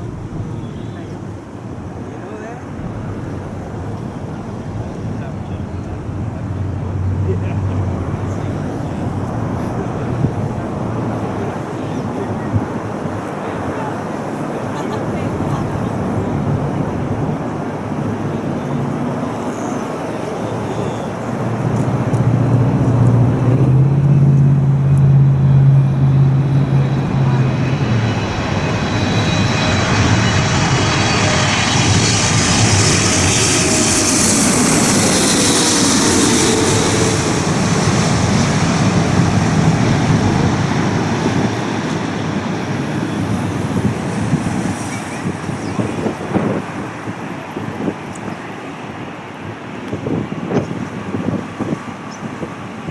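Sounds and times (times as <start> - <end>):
jet airliner passing: 0.0 - 52.9.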